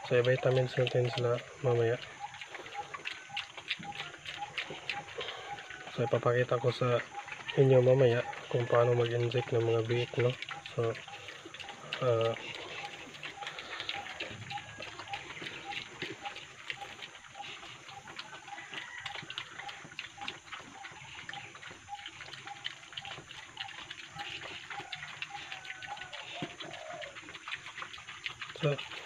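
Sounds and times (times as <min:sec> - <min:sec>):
piglets crunching dry feed: 0:00.0 - 0:29.0.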